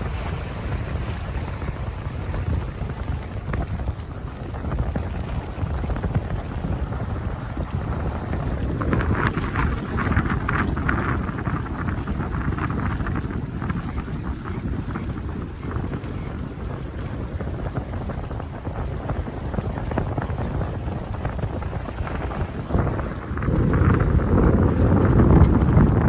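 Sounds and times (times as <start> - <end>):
water splashing along hull: 0.0 - 26.0
wind buffeting microphone: 0.0 - 26.0.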